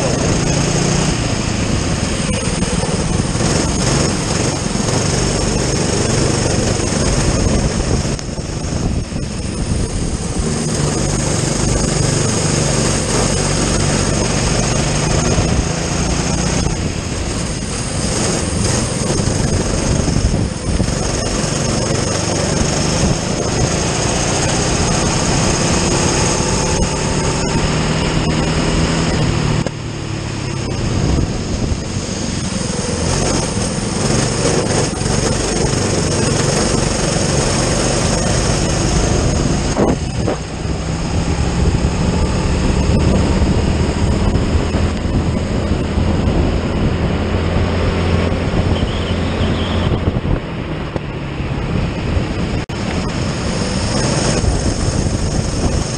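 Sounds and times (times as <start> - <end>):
kart engine revving: 0.0 - 55.9
wind rush at speed: 0.0 - 55.9.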